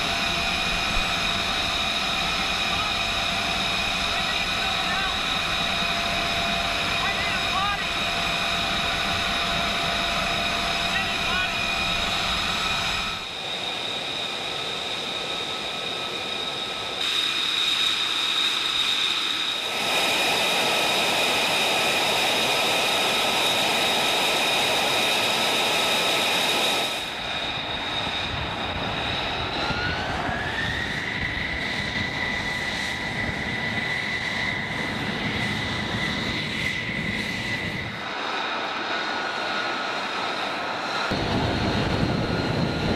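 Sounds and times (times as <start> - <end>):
jet engine rushing: 0.0 - 42.9
jet engine whine: 0.0 - 42.9.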